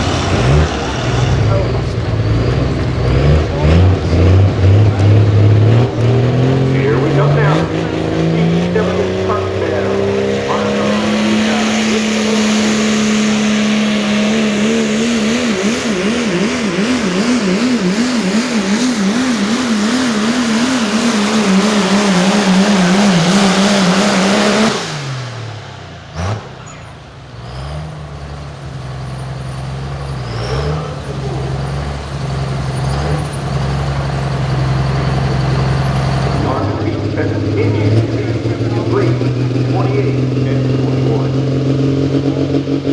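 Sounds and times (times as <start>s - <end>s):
diesel engine running under load: 0.0s - 42.9s.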